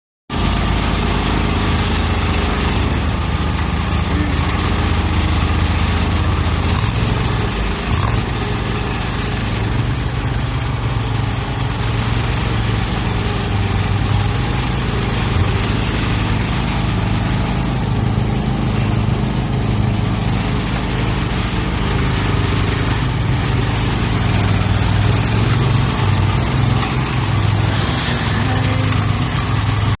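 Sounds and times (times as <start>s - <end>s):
loader engine running: 0.3s - 30.0s.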